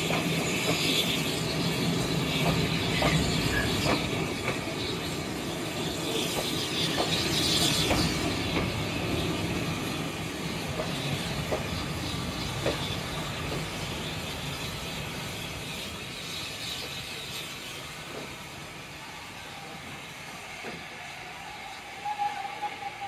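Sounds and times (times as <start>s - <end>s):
train wheels on track: 0.0s - 23.0s.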